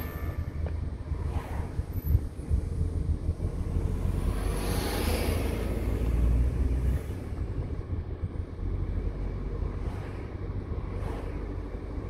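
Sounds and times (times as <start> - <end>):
car road and engine rumble: 0.0 - 12.0
truck passing: 0.0 - 12.0.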